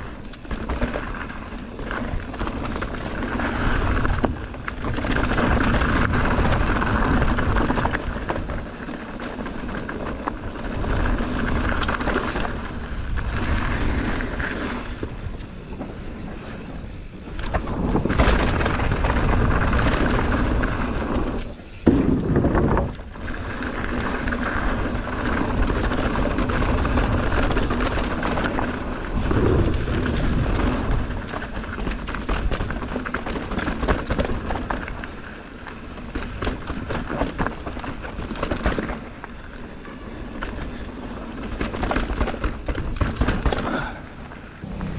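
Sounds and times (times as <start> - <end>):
bike rattling over rough ground: 0.0 - 44.9
bike tyres rolling on trail: 0.0 - 44.9.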